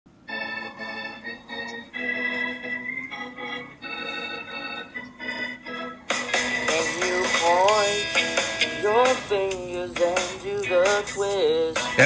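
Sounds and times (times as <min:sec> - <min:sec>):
organ-like keyboard chords: 0:00.1 - 0:12.0.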